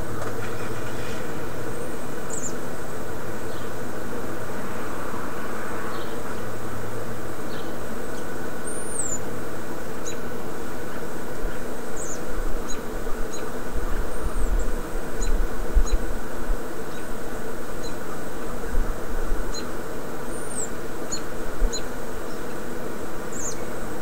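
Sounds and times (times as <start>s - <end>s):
outdoor background hum: 0.0s - 24.0s.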